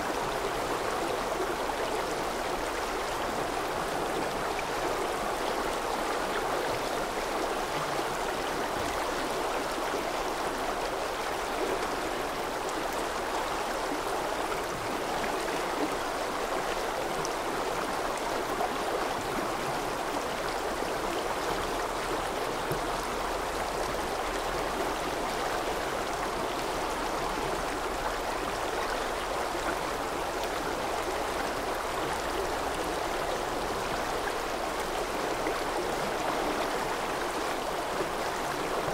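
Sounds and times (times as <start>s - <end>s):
rushing stream water: 0.0s - 38.9s.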